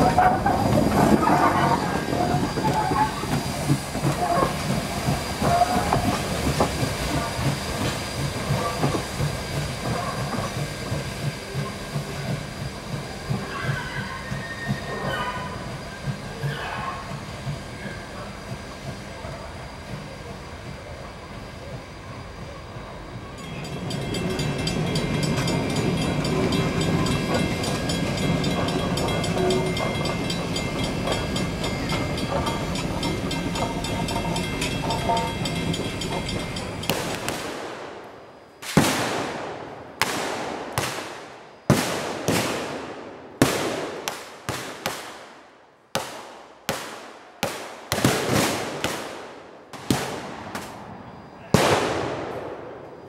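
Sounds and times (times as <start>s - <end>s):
train cars rumbling on track: 0.0s - 53.0s.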